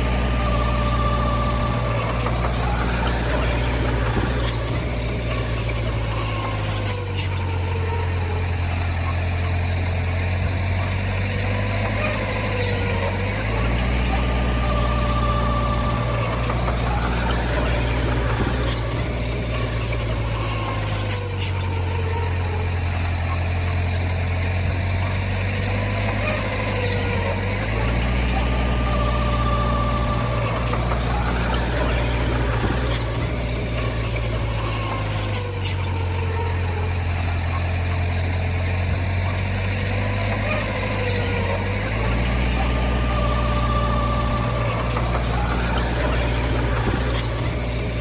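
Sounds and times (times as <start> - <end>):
heavy diesel engine droning: 0.0 - 48.0
wavering whine: 0.0 - 48.0.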